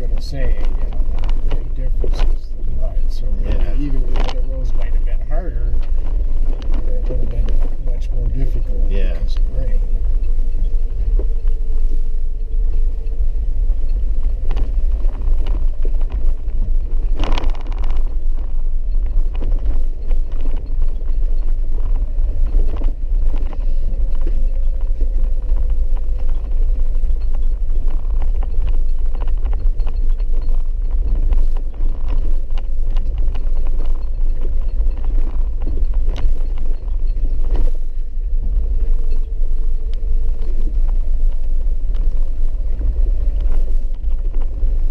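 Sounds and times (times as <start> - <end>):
engine and tyres rumbling: 0.0 - 44.9
loud clatter: 0.0 - 44.9.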